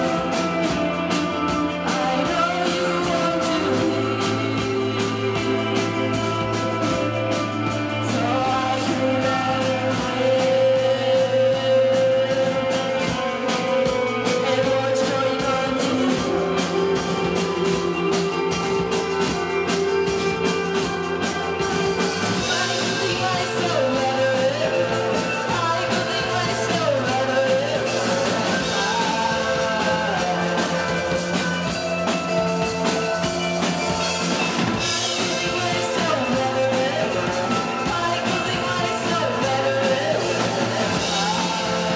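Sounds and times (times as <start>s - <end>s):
drum kit: 0.0s - 41.9s
electric guitar: 0.0s - 41.9s
person singing: 0.0s - 41.9s.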